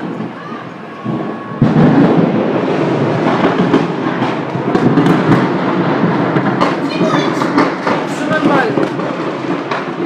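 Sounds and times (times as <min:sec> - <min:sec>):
loud rush of fire burning: 0:00.0 - 0:10.0
sharp pops and crackles: 0:01.1 - 0:10.0.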